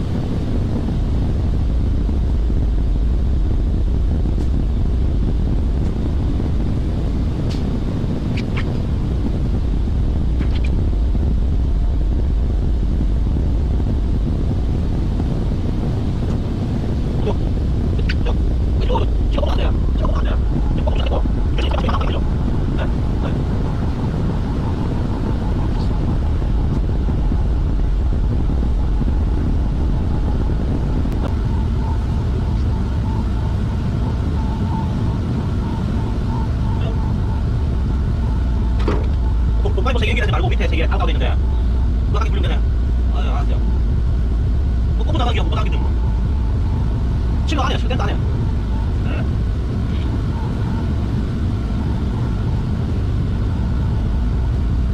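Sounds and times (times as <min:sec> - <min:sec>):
industrial machinery rumble: 0:00.0 - 0:54.9.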